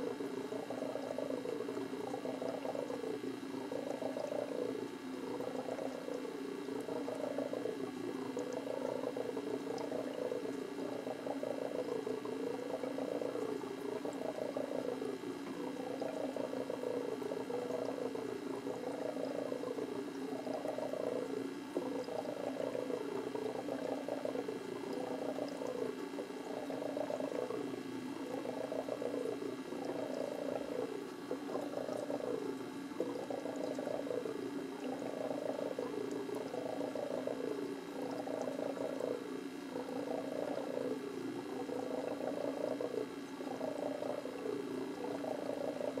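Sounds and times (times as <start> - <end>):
aquarium equipment humming: 0.0 - 46.0.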